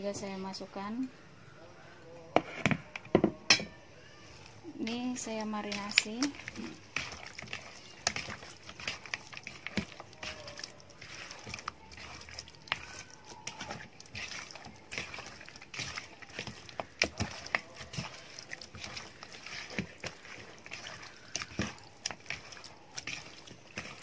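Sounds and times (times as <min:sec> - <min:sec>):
hand squelching wet marinade: 0:04.3 - 0:24.0.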